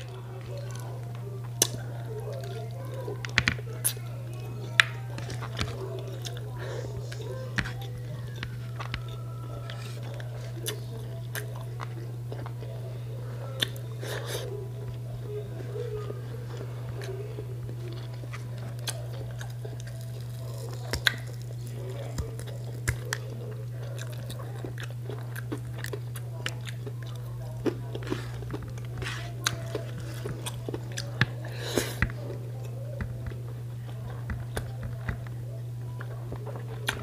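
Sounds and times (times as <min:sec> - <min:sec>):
person chewing food: 0:00.0 - 0:37.0
steady low hum: 0:00.0 - 0:37.0.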